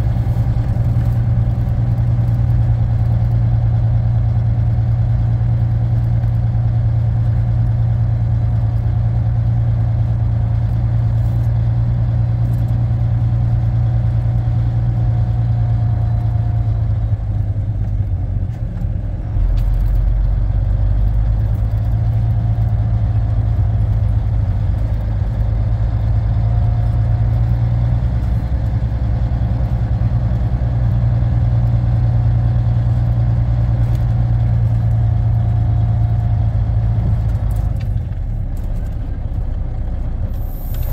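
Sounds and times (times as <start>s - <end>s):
deep rumble: 0.0s - 40.9s
truck diesel engine droning: 0.0s - 40.9s.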